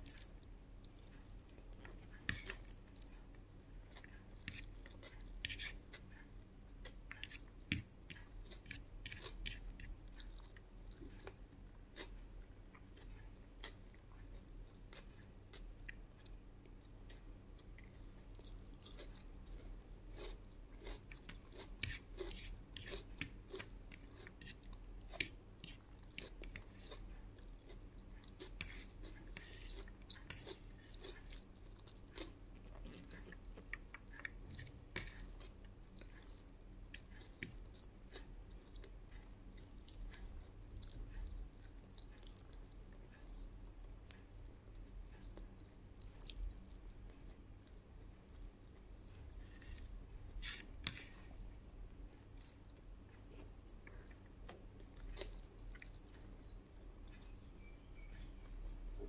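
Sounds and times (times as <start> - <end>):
person chewing: 0.0 - 58.4.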